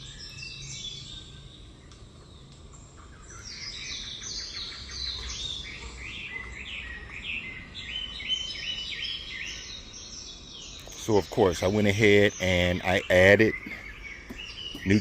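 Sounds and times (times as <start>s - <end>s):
birds chirping and singing: 0.0s - 15.0s.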